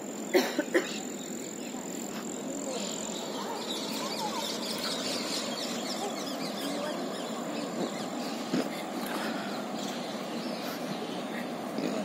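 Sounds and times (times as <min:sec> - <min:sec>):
small birds chirping: 0:00.0 - 0:12.0
steady outdoor noise: 0:00.0 - 0:12.0.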